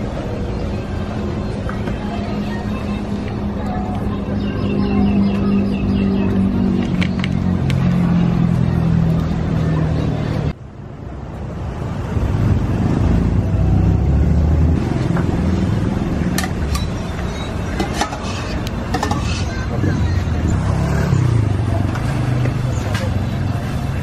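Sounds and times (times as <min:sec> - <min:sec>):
street noise hum: 0:00.0 - 0:24.0.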